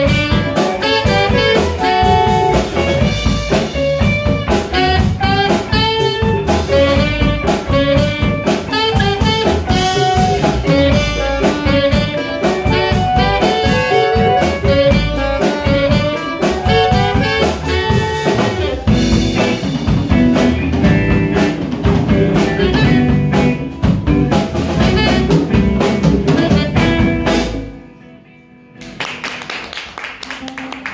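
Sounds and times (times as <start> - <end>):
saxophones playing melody: 0.0 - 23.8, 24.6 - 27.7
audience noise: 0.0 - 27.6, 28.8 - 30.9
live jazz band: 0.0 - 30.9.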